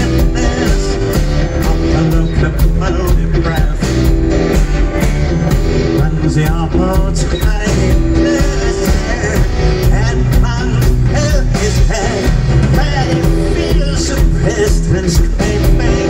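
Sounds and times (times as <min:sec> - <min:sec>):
bass guitar: 0:00.0 - 0:16.0
drum kit beat: 0:00.0 - 0:16.0
electric guitar: 0:00.0 - 0:16.0
keyboards: 0:00.0 - 0:16.0
person singing: 0:00.0 - 0:16.0.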